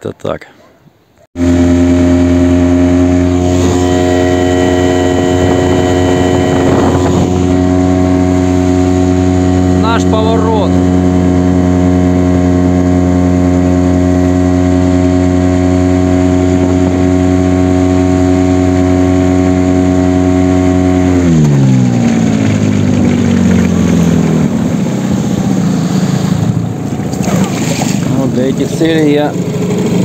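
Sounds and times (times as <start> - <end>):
outboard motor running: 1.4 - 30.0.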